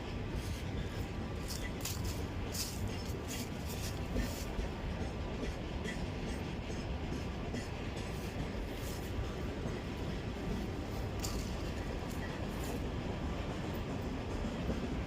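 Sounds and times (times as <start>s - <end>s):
train wagons rumbling past: 0.0s - 15.0s.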